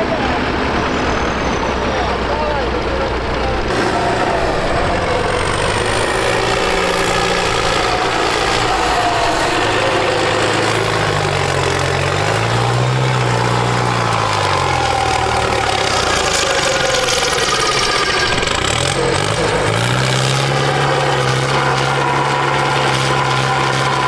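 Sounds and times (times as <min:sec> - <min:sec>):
loud rushing noise: 0:00.0 - 0:24.0
tractor diesel engine revving: 0:00.0 - 0:24.0.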